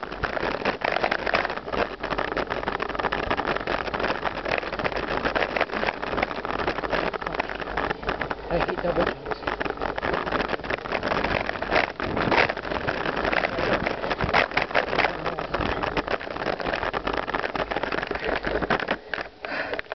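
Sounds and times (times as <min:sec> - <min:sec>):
bike rattling and knocking: 0:00.0 - 0:20.0
tyre noise: 0:00.0 - 0:20.0
wind noise on camera: 0:00.0 - 0:20.0.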